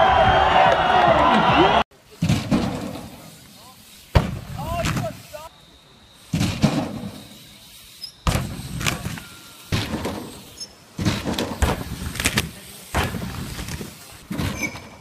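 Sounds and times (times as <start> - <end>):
bikes thudding on wooden ramp: 2.0 - 5.4, 6.2 - 15.0.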